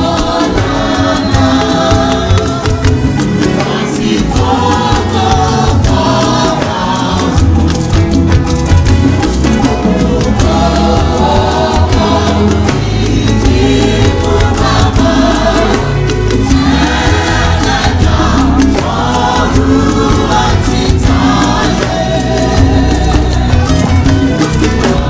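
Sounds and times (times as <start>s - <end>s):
choir singing a hymn: 0.0s - 8.0s, 9.5s - 25.0s
drums keeping a steady beat: 0.0s - 25.0s
keyboard: 0.0s - 25.0s.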